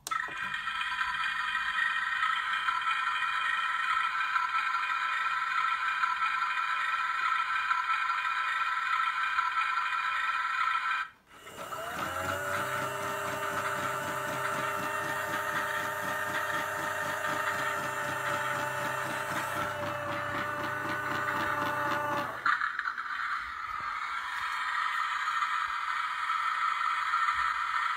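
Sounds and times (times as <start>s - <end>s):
toy washing machine motor whine: 0.0s - 27.9s.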